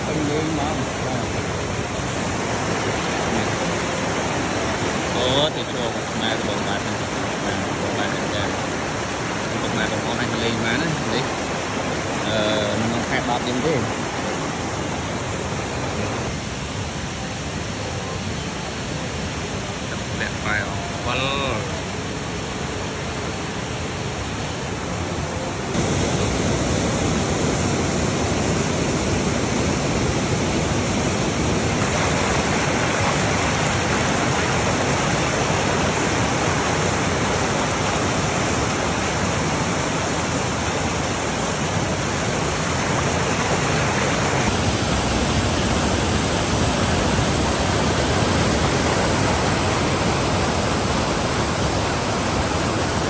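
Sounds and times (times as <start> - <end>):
stream rushing over boulders: 0.0 - 53.0.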